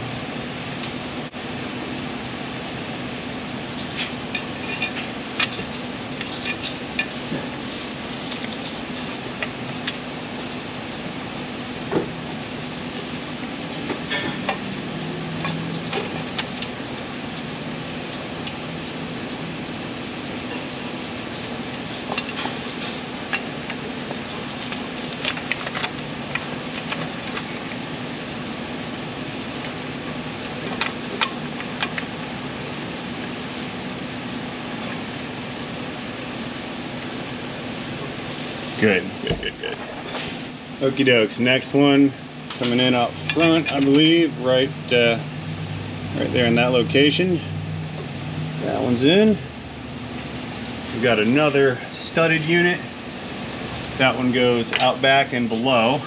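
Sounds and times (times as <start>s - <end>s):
steady background hum: 0.0s - 56.0s.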